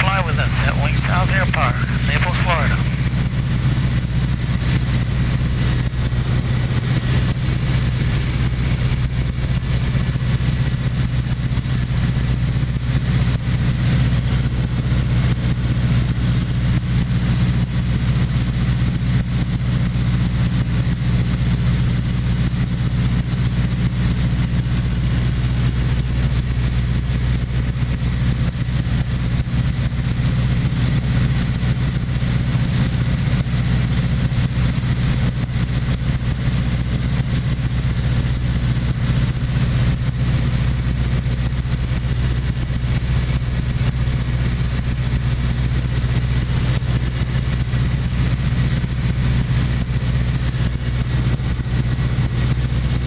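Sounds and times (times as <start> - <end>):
light airplane engine droning: 0.0 - 53.0.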